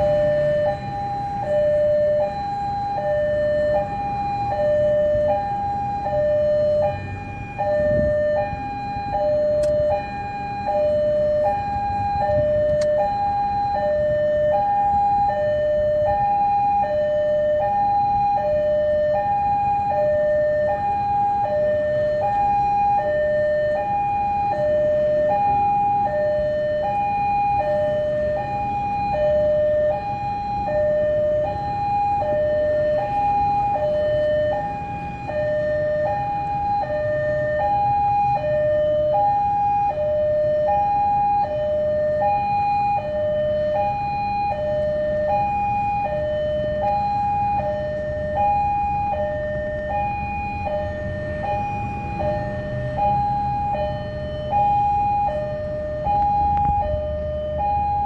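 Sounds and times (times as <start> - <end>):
low rumble of road traffic: 0.0 - 58.0
two-tone level-crossing alarm: 0.0 - 58.0.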